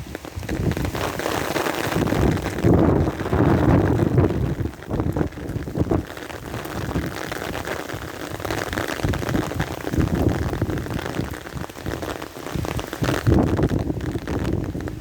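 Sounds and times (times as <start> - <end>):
heavy rain on umbrella: 0.0 - 15.0
wind buffeting microphone: 0.0 - 15.0.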